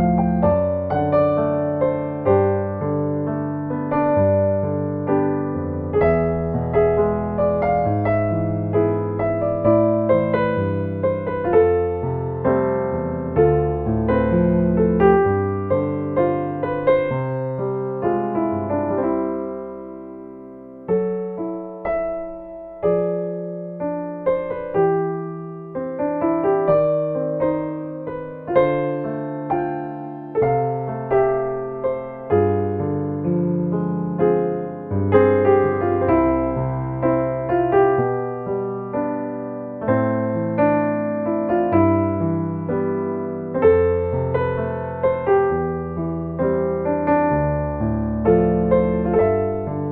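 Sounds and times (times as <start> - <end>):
solo piano ballad: 0.0 - 49.9.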